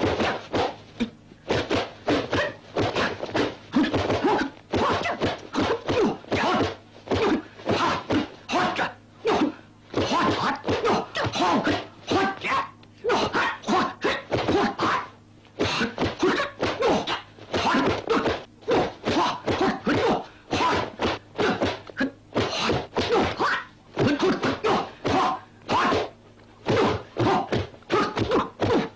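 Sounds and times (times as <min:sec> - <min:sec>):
short fighting cries: 0:00.0 - 0:28.9
punch whacks and thunks: 0:01.5 - 0:12.3, 0:14.0 - 0:14.9, 0:15.6 - 0:28.9.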